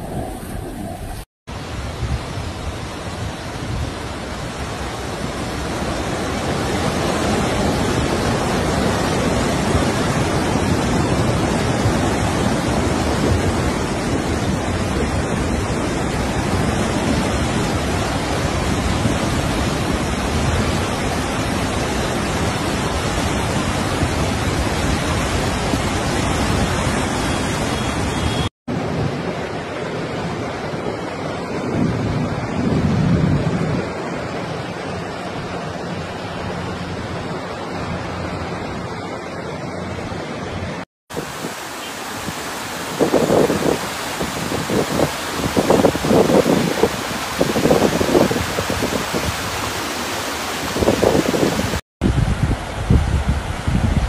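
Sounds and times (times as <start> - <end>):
flood water rushing over rocks: 0.0 - 31.6, 32.2 - 54.0.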